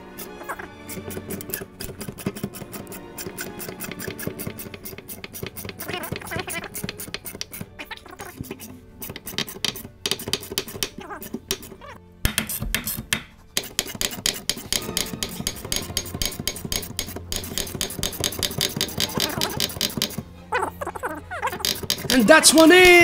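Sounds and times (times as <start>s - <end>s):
background music with quick beat: 0.4s - 7.7s, 8.4s - 20.2s, 21.4s - 23.0s.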